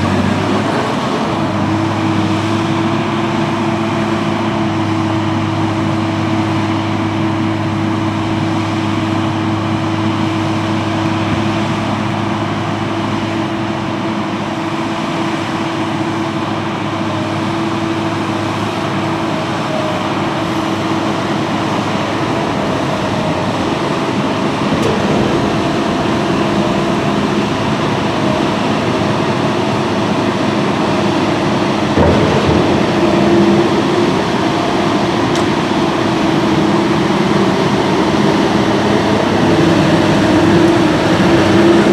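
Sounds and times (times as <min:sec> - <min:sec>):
diesel machinery running: 0:00.0 - 0:41.9.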